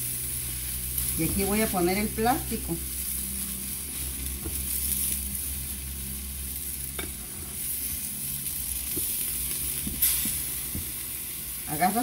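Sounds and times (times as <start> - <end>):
cactus pad sizzling in a frying pan: 0.0 - 12.0.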